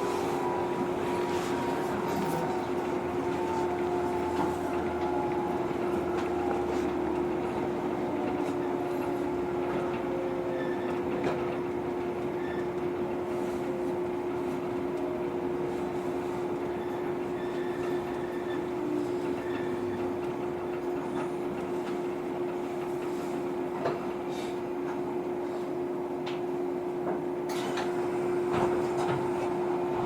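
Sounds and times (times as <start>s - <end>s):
electric train equipment hum: 0.0s - 30.0s.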